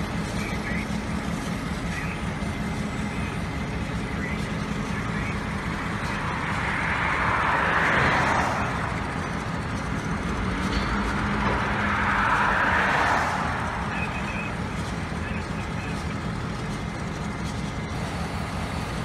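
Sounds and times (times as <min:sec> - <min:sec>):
diesel locomotive humming: 0:00.0 - 0:19.0
road vehicles driving past: 0:00.0 - 0:19.0.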